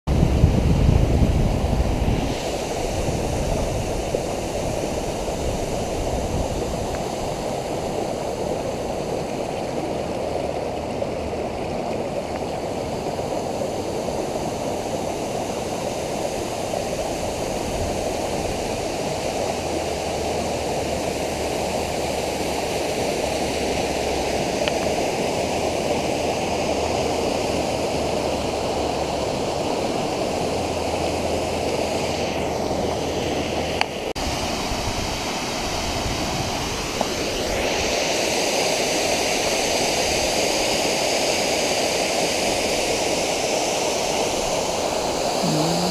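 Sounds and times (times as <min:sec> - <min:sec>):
waterfall rushing: 0:01.6 - 0:45.9.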